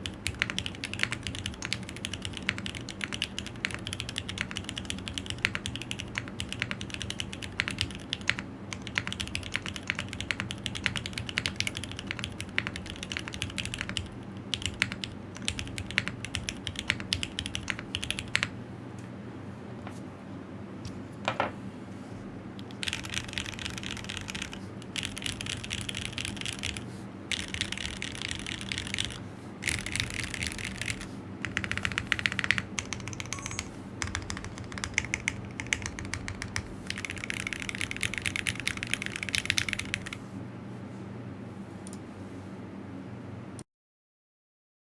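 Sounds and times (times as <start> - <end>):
mechanical keyboard typing: 0.0 - 18.5, 22.6 - 40.2
steady low hum: 0.0 - 43.6.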